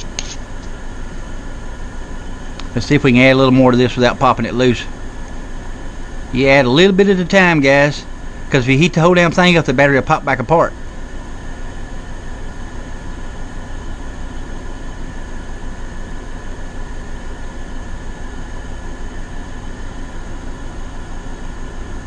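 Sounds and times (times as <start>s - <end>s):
air conditioners whirring: 0.0s - 22.0s.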